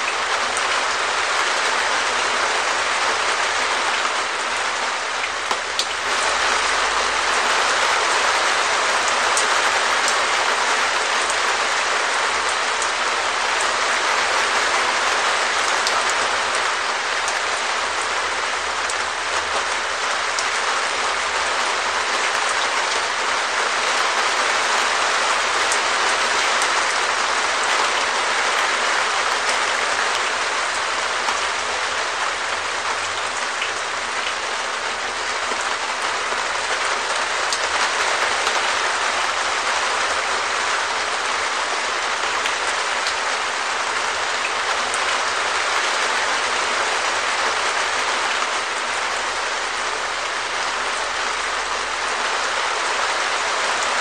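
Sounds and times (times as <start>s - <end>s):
rain on a plastic roof: 0.0s - 54.0s.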